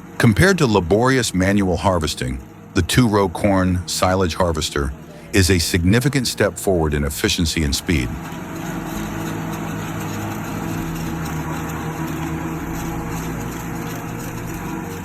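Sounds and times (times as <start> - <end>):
harvester engine running: 0.0 - 15.0.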